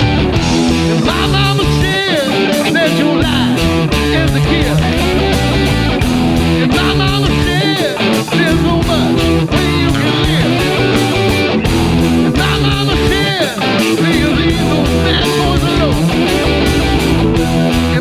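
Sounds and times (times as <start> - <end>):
bass guitar: 0.0 - 18.0
rock guitar lead with bends: 0.0 - 18.0
steady drum beat: 0.0 - 18.0.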